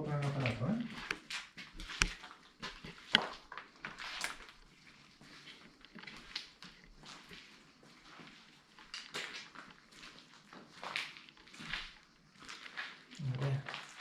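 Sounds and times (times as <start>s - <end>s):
footsteps crunching over rubble: 0.0s - 14.0s.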